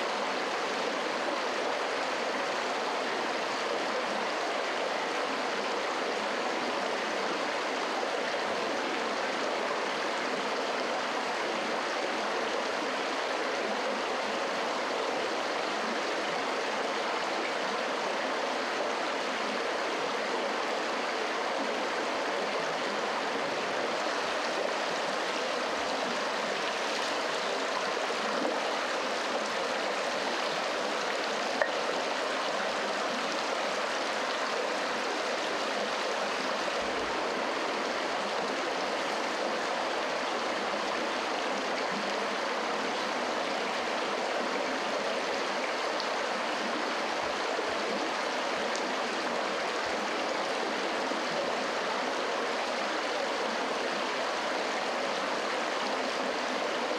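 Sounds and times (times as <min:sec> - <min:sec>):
running water rushing: 0:00.0 - 0:56.9.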